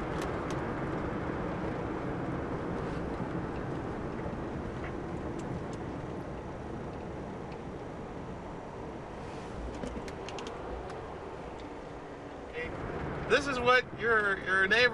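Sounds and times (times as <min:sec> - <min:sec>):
car engine and tyre road noise: 0:00.0 - 0:14.9.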